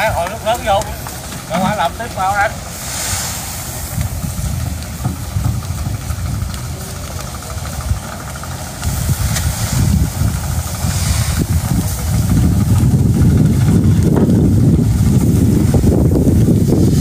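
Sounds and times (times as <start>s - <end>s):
low rumble: 0.0s - 17.0s
rice grain pouring hiss: 0.0s - 17.0s.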